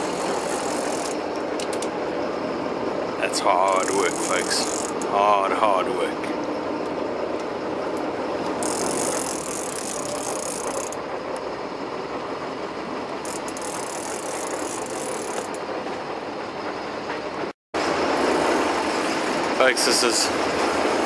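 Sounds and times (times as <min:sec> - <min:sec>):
boat engine rattling: 0:00.0 - 0:17.4.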